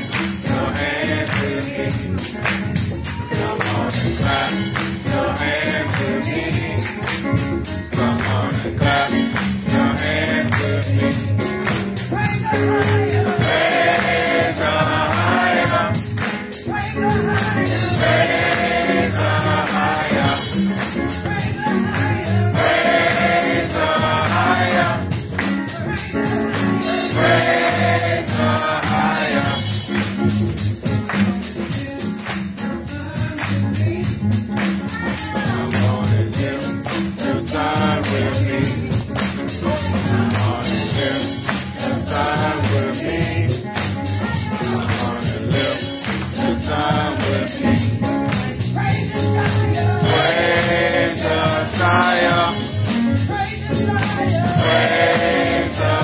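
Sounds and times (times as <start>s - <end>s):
congregation singing: 0.0s - 56.0s
rhythmic hand-clapping: 0.0s - 56.0s.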